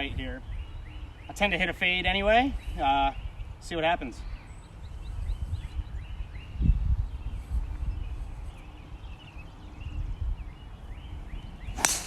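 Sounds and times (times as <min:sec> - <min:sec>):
small birds chirping: 0:00.0 - 0:12.0
wind buffeting microphone: 0:00.0 - 0:12.0.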